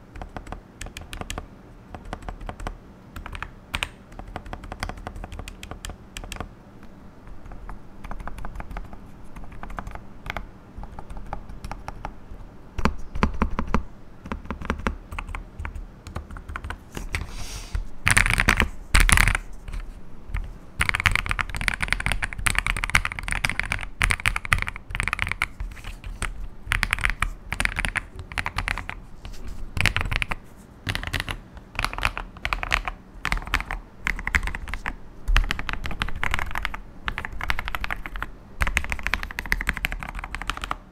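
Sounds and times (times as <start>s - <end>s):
mechanical keyboard typing: 0.0s - 6.5s, 7.3s - 12.2s, 12.8s - 17.3s, 18.0s - 29.0s, 29.8s - 40.9s.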